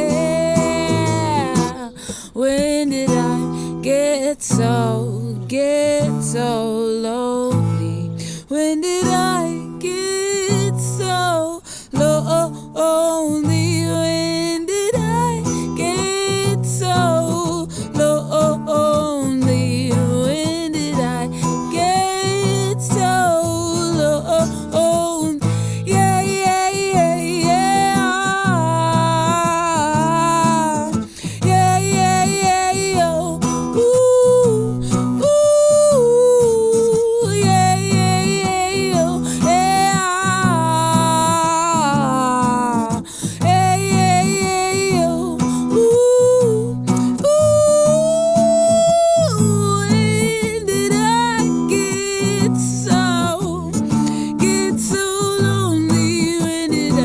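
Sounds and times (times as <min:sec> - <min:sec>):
guitar chords: 0:00.0 - 0:57.0
high voice singing wordless melody: 0:00.0 - 0:57.0.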